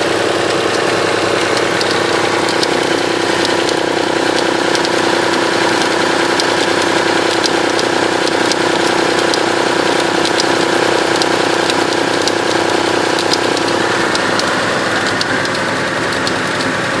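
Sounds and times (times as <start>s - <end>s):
car engine idling: 0.0s - 17.0s
sharp clicks from engine belt: 0.0s - 17.0s.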